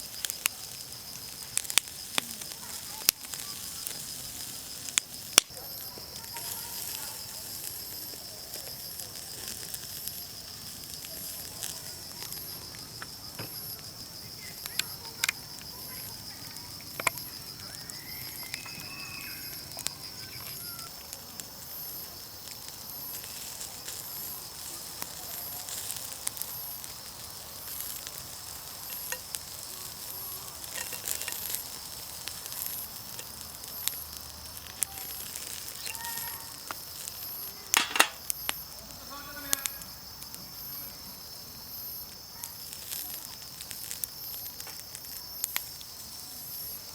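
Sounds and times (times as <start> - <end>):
fire crackling: 0.0 - 46.9
food sizzling over charcoal: 0.0 - 46.9
insects chirping: 0.0 - 46.9.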